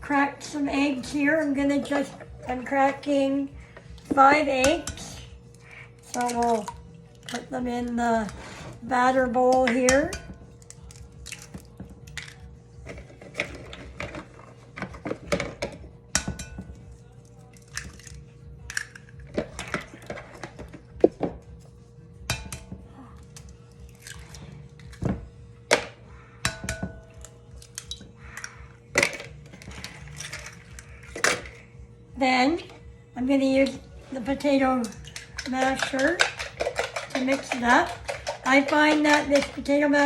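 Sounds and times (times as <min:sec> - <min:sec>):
eggs cracking against a bowl: 0:00.0 - 0:31.7, 0:33.6 - 0:40.0.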